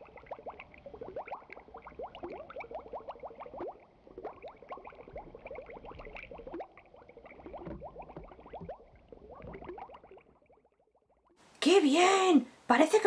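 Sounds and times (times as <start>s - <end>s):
underwater bubbling bloops: 0.0s - 11.4s.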